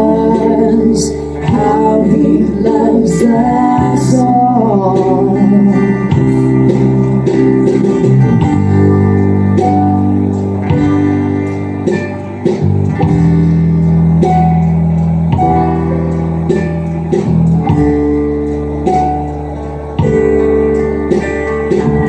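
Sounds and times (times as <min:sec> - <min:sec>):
strummed guitar chords: 0:00.0 - 0:22.0
sustained bass: 0:00.0 - 0:22.0.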